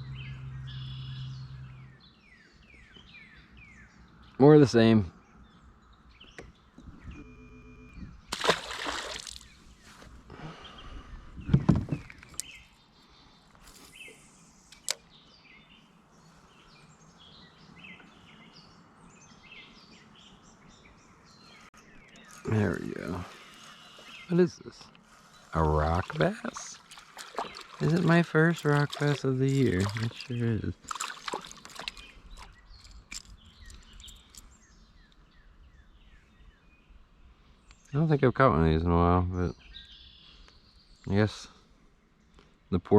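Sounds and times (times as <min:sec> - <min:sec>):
birds chirping: 0:00.0 - 0:42.9
outdoor background noise: 0:00.0 - 0:42.9.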